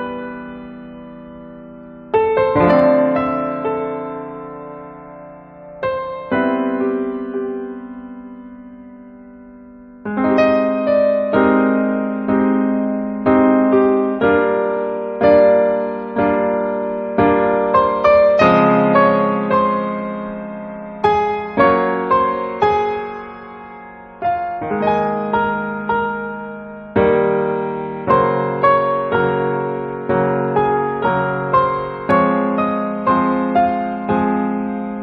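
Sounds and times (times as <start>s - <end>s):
slow piano music: 0.0s - 35.0s.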